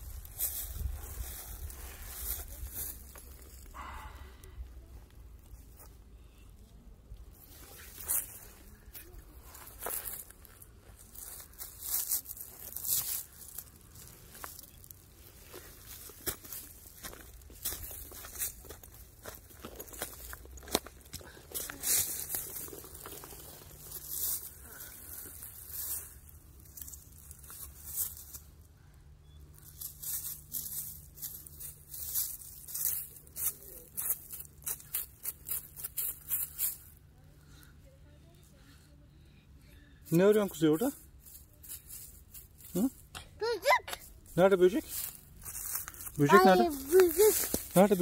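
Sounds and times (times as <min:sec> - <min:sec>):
dry leaves rustling and crunching: 0:00.0 - 0:04.4, 0:07.2 - 0:37.2, 0:40.0 - 0:48.0.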